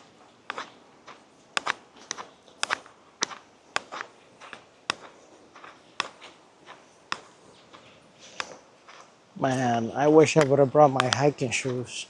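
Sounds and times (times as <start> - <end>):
footsteps in sandals on trail: 0.0 - 12.0.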